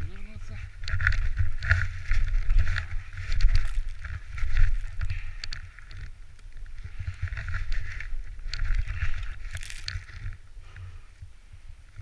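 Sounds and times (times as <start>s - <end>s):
crunching or rustling: 0.0s - 10.8s
wind buffeting microphone: 0.0s - 12.0s.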